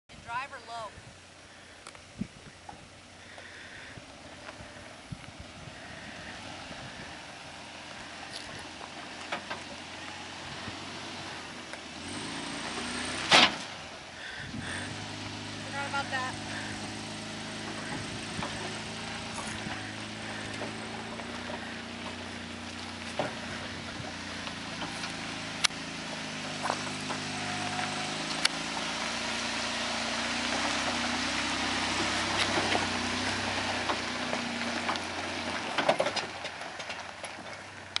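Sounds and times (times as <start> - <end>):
truck engine at low revs: 0.1 - 38.0.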